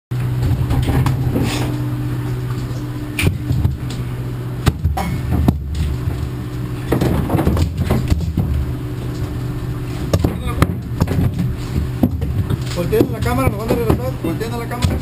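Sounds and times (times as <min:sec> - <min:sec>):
machinery droning: 0:00.1 - 0:15.0.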